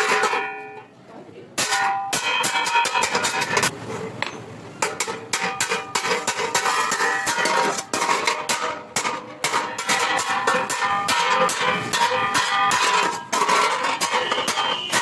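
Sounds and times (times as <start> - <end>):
hammer striking metal: 1.6 - 15.0.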